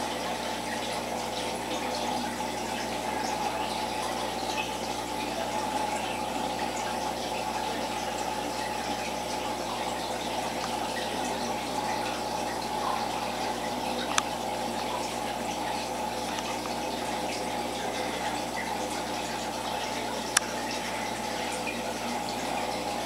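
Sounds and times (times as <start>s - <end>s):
aquarium water trickling and bubbling: 0.0s - 23.0s.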